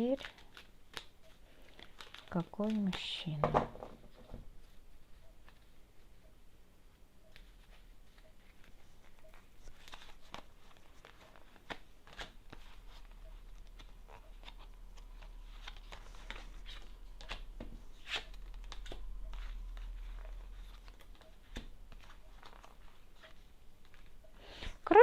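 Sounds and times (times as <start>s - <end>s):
cards being shuffled: 0.1s - 3.3s, 7.3s - 24.6s
faint low hum: 0.1s - 25.0s.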